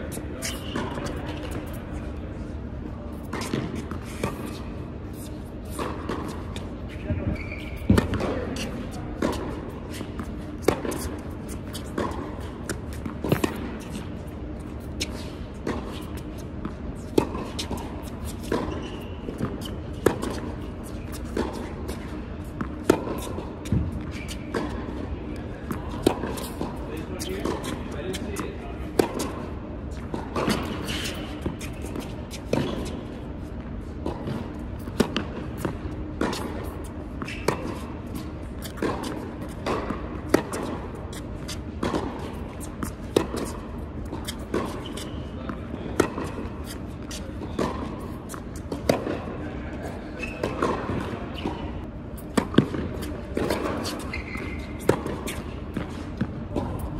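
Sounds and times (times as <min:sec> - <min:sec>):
shoes shuffling on court: 0:00.0 - 0:56.9
racquet hitting tennis ball: 0:00.4 - 0:01.7, 0:05.5 - 0:56.9
tennis ball bouncing: 0:03.1 - 0:56.9.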